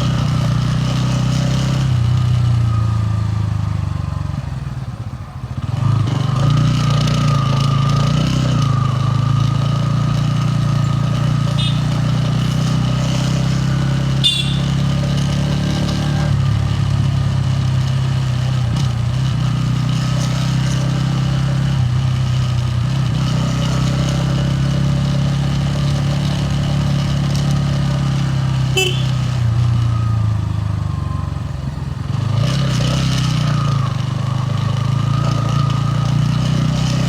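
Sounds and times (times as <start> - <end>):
motorcycle engine and exhaust running: 0.0 - 37.0.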